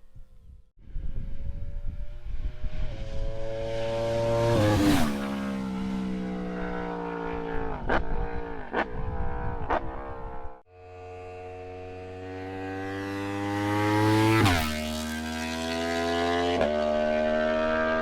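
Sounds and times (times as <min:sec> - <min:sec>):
motorcycle engine passing: 0:00.9 - 0:18.0.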